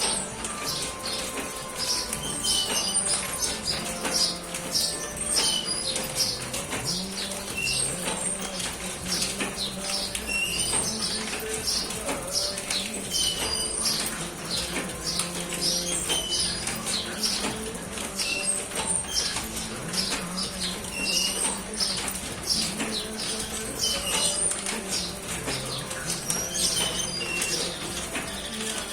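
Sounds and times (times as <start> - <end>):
birds chirping: 0.0 - 28.9.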